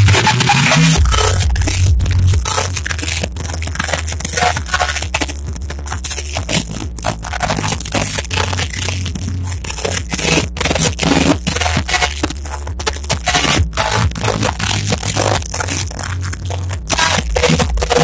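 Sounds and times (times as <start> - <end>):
overdriven dance music: 0.0 - 18.0.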